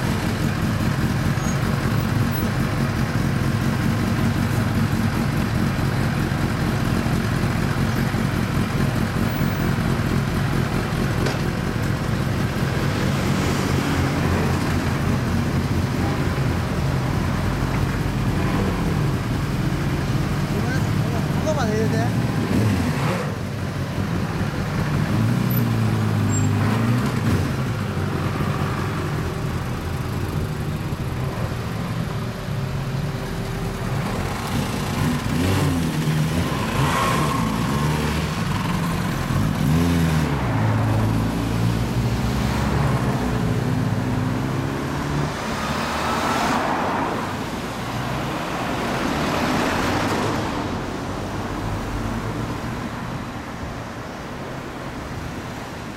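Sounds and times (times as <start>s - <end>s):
motorcycle engines revving: 0.0s - 53.5s
road traffic passing: 0.0s - 55.9s.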